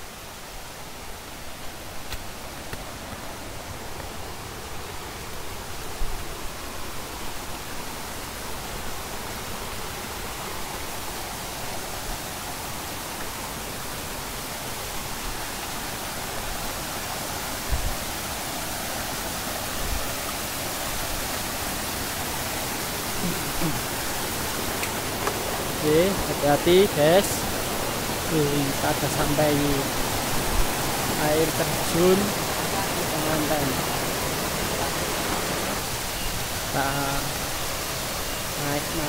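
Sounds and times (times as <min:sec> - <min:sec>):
stream water over rocks: 0:00.0 - 0:39.0.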